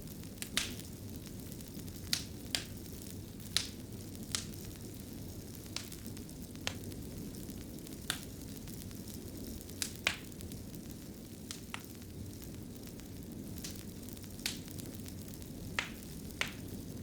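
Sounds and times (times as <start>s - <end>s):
fire popping: 0.0s - 17.0s
wood fire rumbling: 0.0s - 17.0s.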